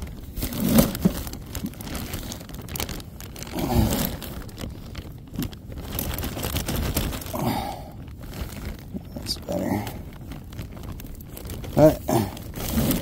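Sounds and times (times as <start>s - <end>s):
crinkly rustling and clicking: 0.0s - 13.0s.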